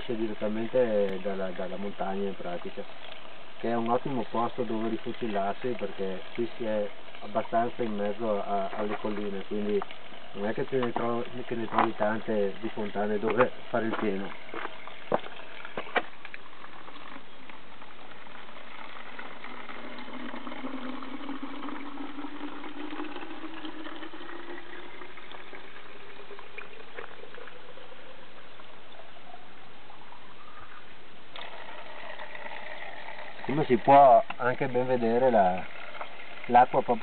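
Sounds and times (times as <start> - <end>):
water filling plastic bottle: 0.0 - 37.0.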